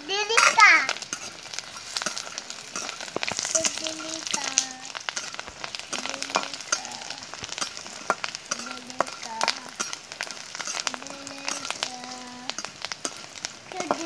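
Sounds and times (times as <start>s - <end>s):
chips sizzling in hot oil: 0.0s - 14.0s
metal spatula scraping wok: 0.2s - 14.0s.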